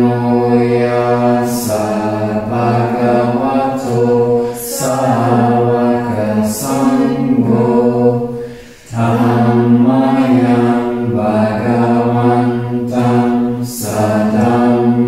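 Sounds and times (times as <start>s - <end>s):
low voices chanting: 0.0s - 15.0s.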